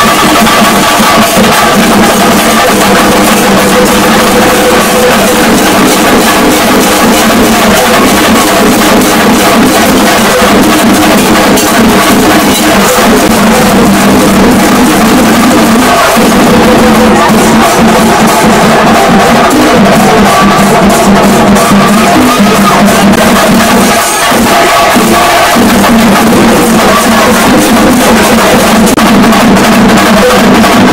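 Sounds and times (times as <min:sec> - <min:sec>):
crowd voices: 0:00.0 - 0:30.9
fast dense drumming music: 0:00.0 - 0:30.9.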